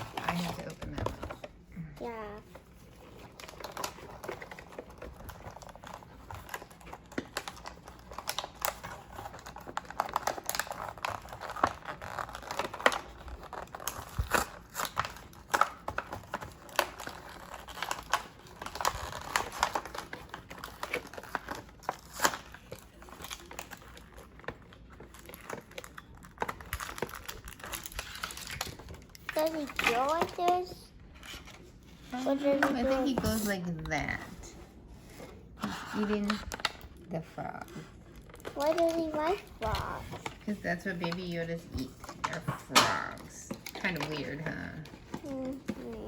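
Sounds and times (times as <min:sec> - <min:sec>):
box crinkling and rustling: 0:00.0 - 0:37.0, 0:37.8 - 0:46.0.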